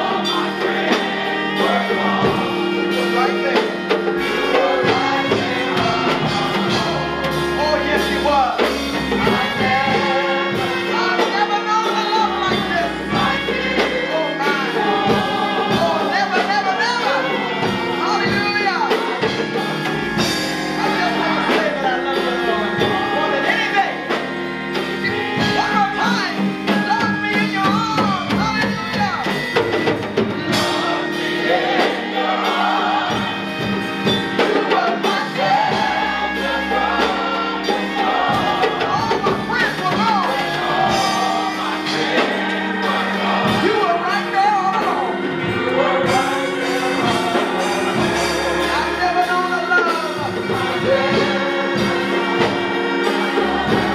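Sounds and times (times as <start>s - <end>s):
gospel choir singing: 0.0s - 53.9s
live band playing a steady beat: 0.0s - 53.9s.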